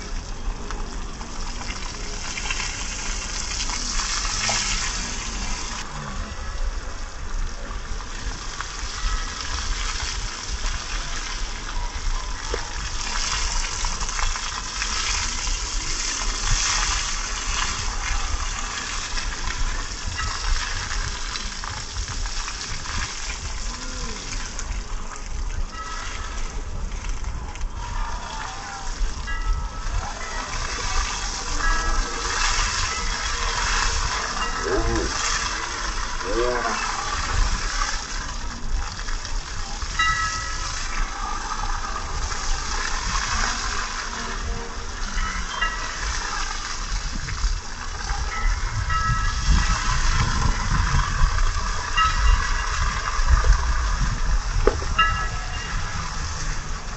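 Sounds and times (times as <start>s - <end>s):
hose water spraying and splashing: 0.0s - 56.9s.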